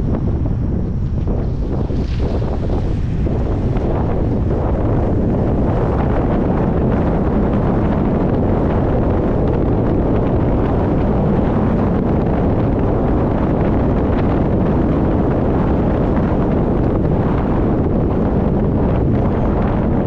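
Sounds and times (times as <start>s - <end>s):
car road noise: 0.0s - 19.6s
wind rushing over microphone: 0.0s - 20.0s.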